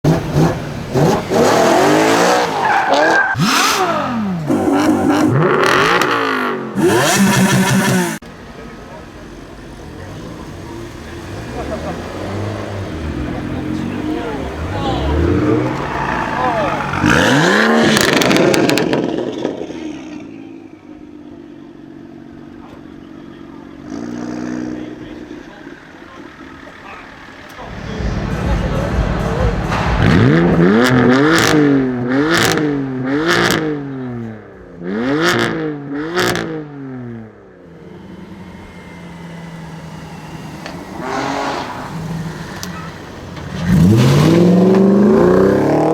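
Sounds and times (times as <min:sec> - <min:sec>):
car engines revving hard: 0:00.0 - 0:45.9.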